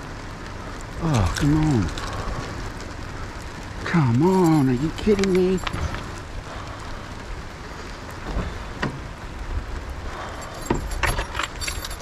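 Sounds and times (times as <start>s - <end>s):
rain on car and pavement: 0.0s - 12.0s.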